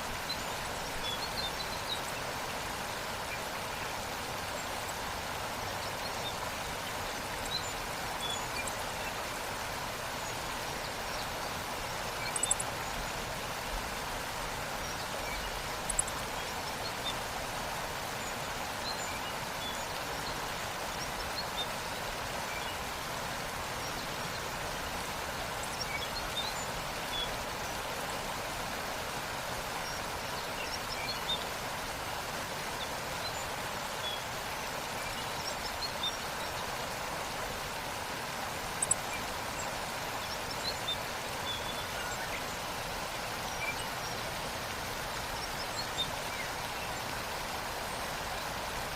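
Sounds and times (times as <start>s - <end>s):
waterfall rushing over rocks: 0.0s - 48.9s.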